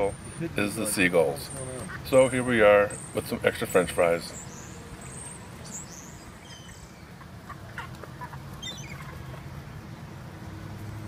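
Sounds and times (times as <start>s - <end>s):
gulls calling: 0.0s - 10.1s.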